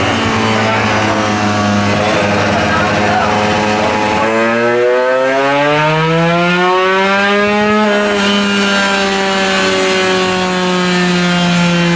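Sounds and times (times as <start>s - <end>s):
two-stroke motorcycle engine revving: 0.0s - 11.9s.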